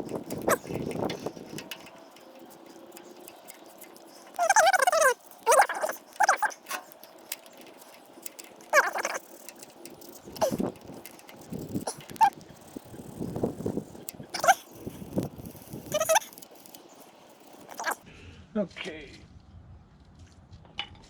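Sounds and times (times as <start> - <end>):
animal warbling calls: 0.2 - 18.0.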